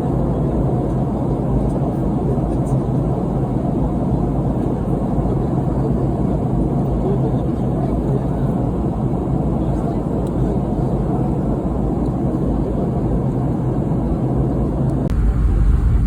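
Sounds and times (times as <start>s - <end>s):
airflow rush in aircraft cabin: 0.0s - 16.0s
constant low hum: 0.0s - 16.0s
jet engines: 0.0s - 16.0s.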